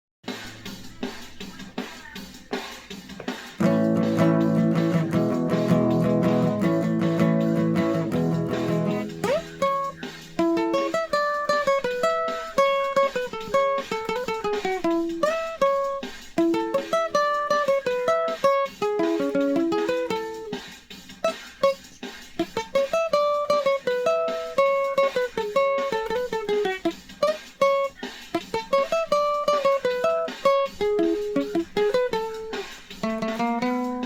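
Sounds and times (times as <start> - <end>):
guitar picked melody: 3.2 - 34.0.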